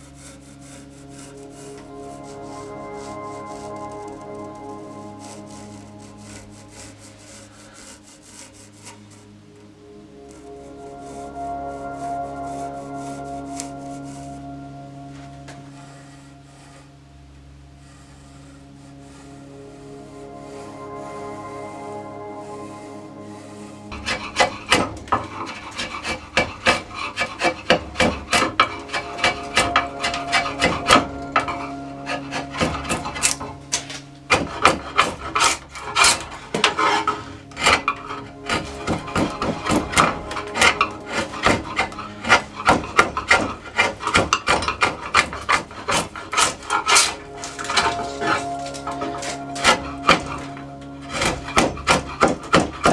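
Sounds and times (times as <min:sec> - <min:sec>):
wood rasp strokes: 0:00.0 - 0:17.0, 0:17.8 - 0:52.9
background music with held notes: 0:00.0 - 0:52.9.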